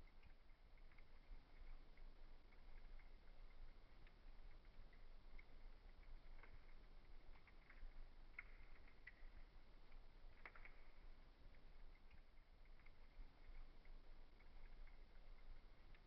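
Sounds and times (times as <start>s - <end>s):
low steady hum: 0.0s - 16.0s
wood fire crackling: 0.0s - 16.0s.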